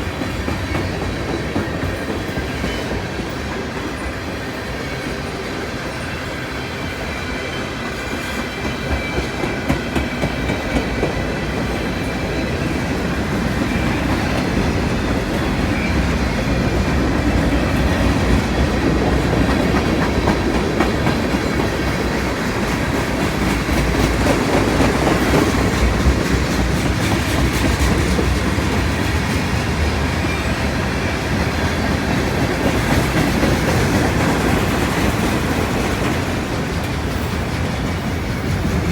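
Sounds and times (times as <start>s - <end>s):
clickety-clack over rail joints: 0.0s - 38.9s
freight train wheels rumbling: 0.0s - 38.9s.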